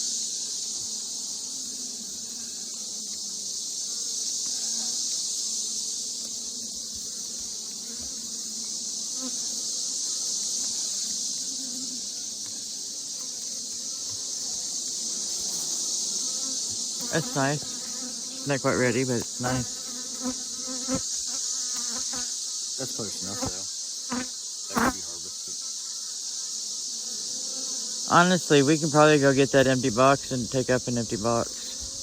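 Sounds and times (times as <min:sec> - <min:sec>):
high-pitched insect chirring: 0:00.0 - 0:32.0
honeybees humming: 0:00.0 - 0:32.0.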